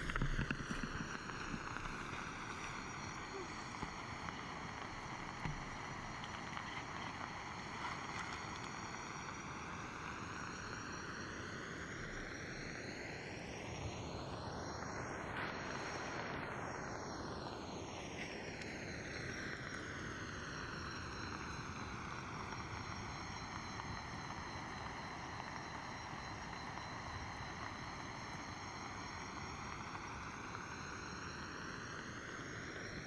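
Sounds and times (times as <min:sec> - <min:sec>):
aircraft drone overhead: 0:00.0 - 0:33.0.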